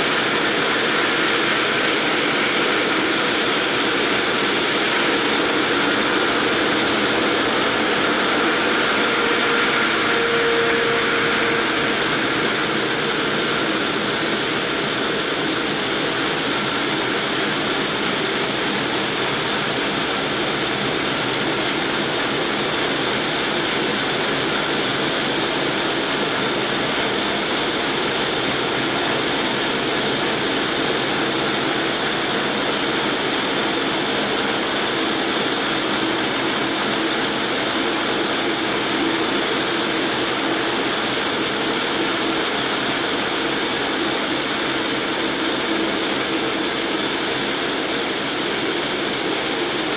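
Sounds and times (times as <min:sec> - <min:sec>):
saw blades cutting stone: 0:00.2 - 0:40.7.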